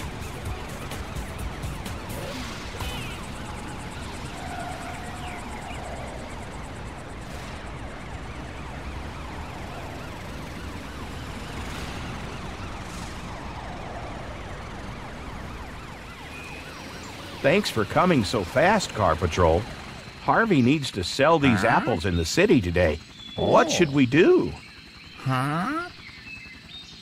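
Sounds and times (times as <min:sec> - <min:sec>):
dense traffic noise: 0:00.0 - 0:24.6
emergency sirens wailing: 0:00.0 - 0:27.0.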